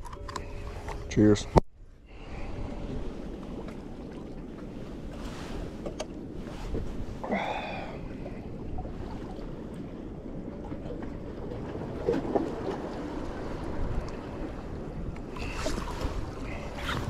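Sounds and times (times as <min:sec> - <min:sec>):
wind: 0:00.0 - 0:17.0
surf: 0:00.8 - 0:17.0.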